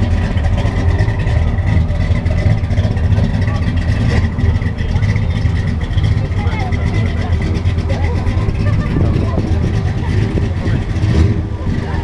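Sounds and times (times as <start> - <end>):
car engine exhaust rumble: 0.0 - 12.0.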